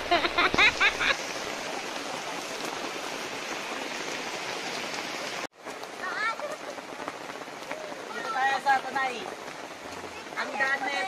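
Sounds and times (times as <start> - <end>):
rain hissing: 0.0 - 11.0
river water over rocks: 0.0 - 11.0.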